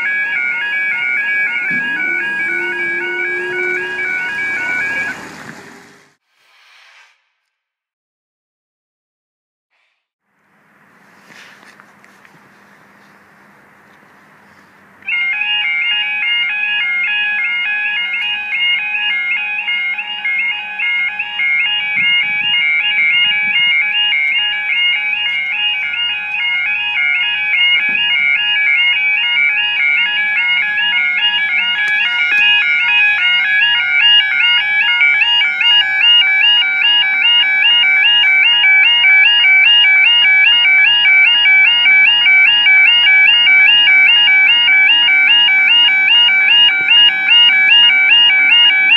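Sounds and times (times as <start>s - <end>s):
level crossing alarm warbling: 0.0s - 6.2s, 15.0s - 48.9s.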